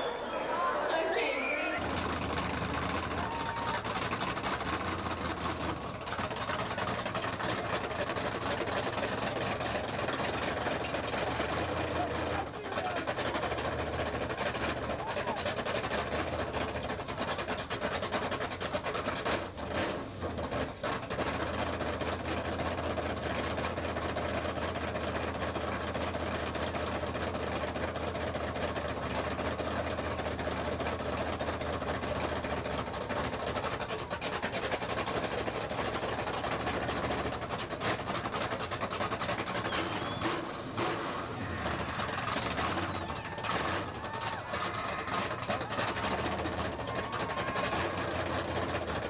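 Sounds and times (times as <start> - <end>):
truck engine droning: 0.0 - 49.0.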